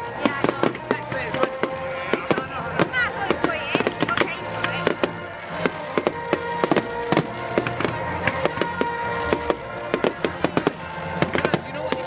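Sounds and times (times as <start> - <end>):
background music: 0.0 - 12.0
fireworks crackling: 0.0 - 12.0.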